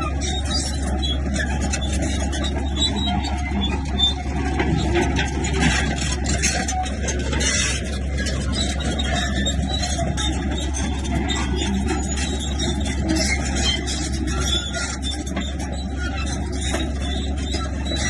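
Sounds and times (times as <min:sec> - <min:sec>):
clanking and scraping: 0:00.0 - 0:18.0
earthmoving machinery engine hum: 0:00.0 - 0:18.0.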